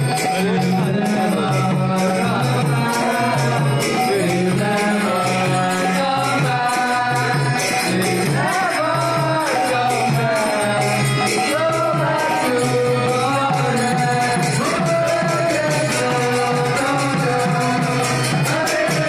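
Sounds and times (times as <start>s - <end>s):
drum beat: 0.0s - 19.0s
jingling metal percussion: 0.0s - 19.0s
voices singing a chant: 0.0s - 19.0s.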